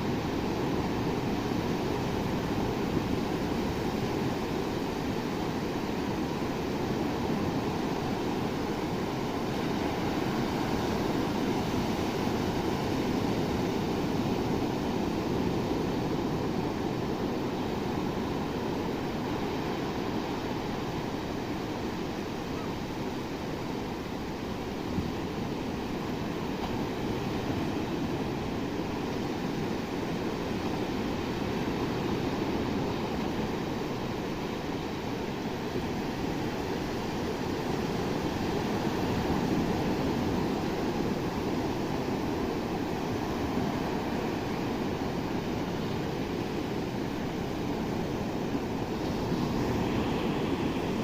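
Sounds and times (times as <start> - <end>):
waves breaking on beach: 0.0 - 51.0.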